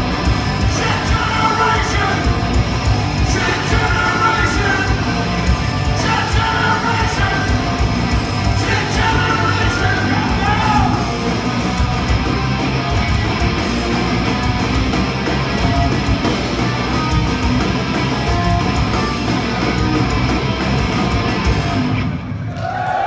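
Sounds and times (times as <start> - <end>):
live rock band playing: 0.0 - 22.4.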